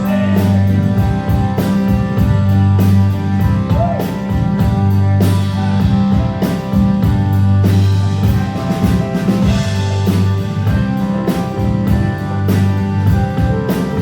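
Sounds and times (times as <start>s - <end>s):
bass: 0.0s - 14.0s
drum kit beat: 0.0s - 14.0s
guitar: 0.0s - 14.0s.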